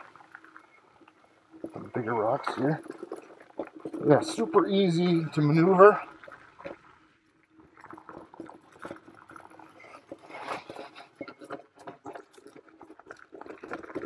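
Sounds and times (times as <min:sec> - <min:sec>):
scooter tyres on gravel: 0:00.0 - 0:07.1, 0:07.7 - 0:14.0.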